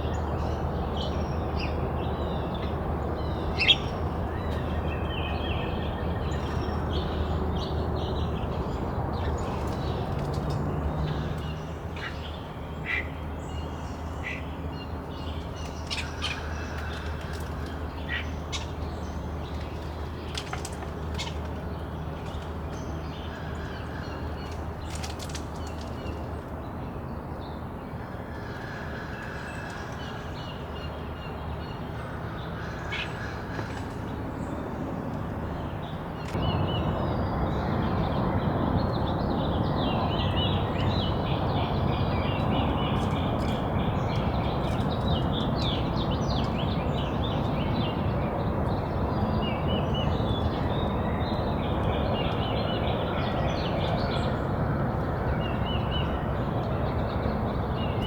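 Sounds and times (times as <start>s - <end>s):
dense chatter of bird calls: 0.0s - 58.0s
songbirds chirping: 0.0s - 58.0s.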